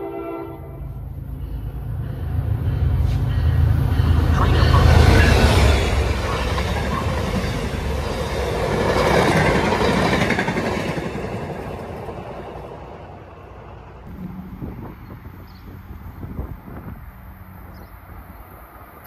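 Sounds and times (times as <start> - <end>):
passenger train passing: 0.0 - 19.0.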